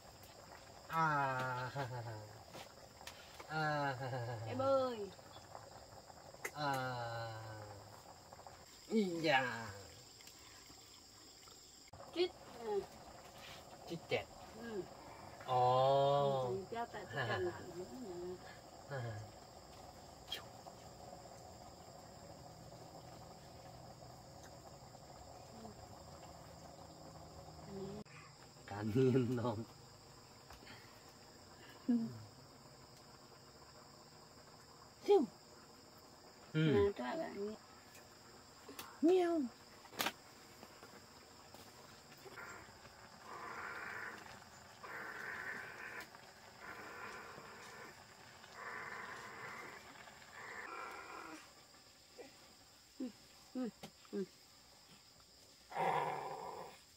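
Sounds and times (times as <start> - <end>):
insects chirring: 0.0 - 56.9.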